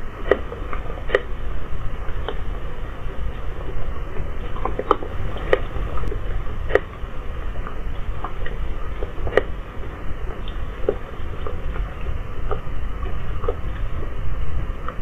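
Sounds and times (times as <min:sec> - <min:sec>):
low night rumble: 0:00.0 - 0:15.0.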